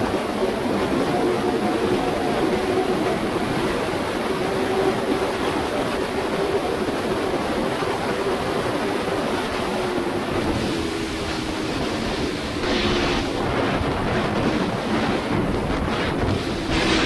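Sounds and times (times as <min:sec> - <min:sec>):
motorcycle engine at speed: 0:00.0 - 0:17.0
wind noise rushing: 0:00.0 - 0:17.0.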